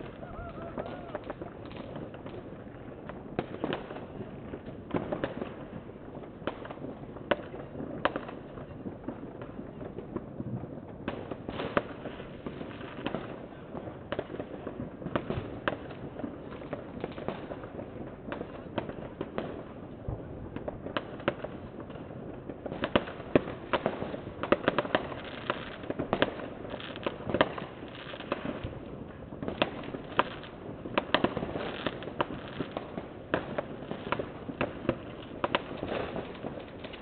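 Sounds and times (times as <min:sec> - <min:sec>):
firecracker crackle: 0:00.0 - 0:37.0
fireworks bangs and pops: 0:00.0 - 0:37.0.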